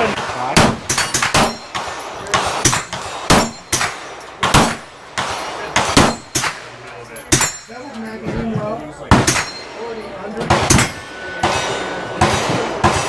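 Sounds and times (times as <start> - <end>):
gunshots: 0.0 - 7.7, 9.1 - 9.8, 10.5 - 13.0.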